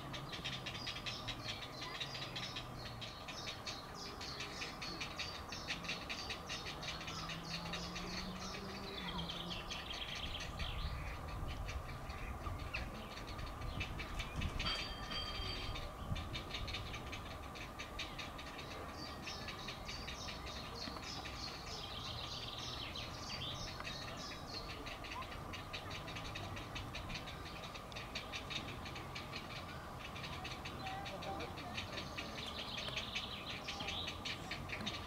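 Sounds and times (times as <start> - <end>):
heron chicks ticking chatter: 0.0 - 35.0.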